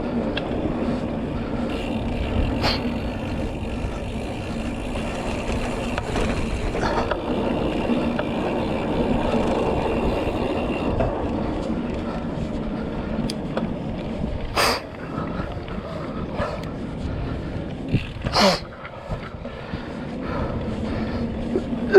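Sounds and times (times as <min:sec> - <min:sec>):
bike rattling over bumps: 0:00.0 - 0:21.9
tyres rolling over dirt: 0:00.0 - 0:21.9
wind rumble: 0:00.0 - 0:21.9.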